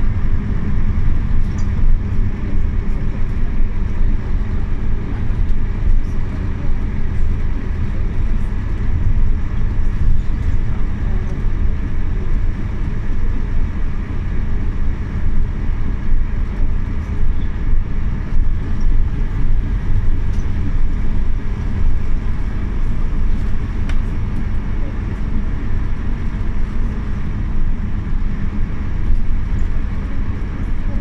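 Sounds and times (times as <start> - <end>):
bus engine rumble: 0.0 - 31.0.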